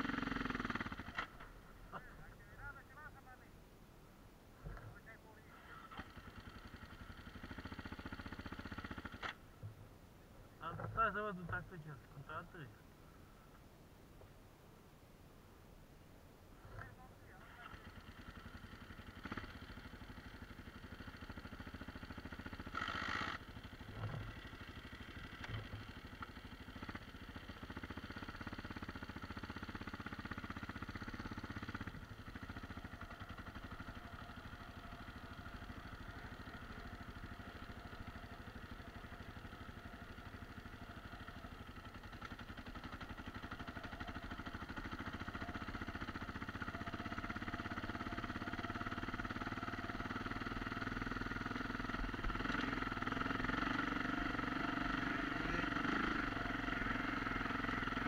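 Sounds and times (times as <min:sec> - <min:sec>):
dirt bike engine running: 0:00.0 - 0:03.2, 0:04.6 - 0:09.9, 0:16.6 - 0:58.0.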